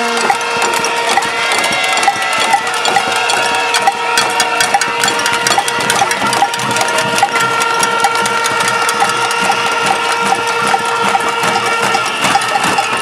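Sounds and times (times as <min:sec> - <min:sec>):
crowd banging pots and pans: 0:00.0 - 0:13.0.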